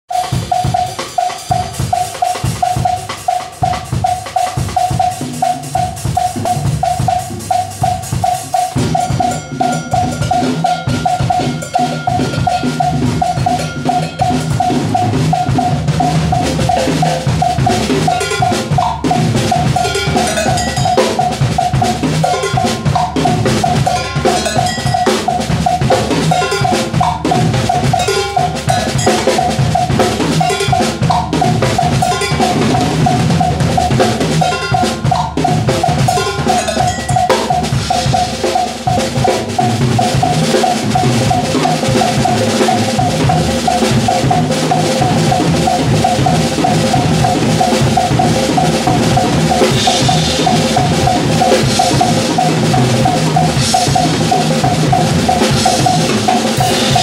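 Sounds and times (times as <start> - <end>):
drum kit playing groove: 0.0 - 57.0
high-pitched knock: 6.5 - 57.0.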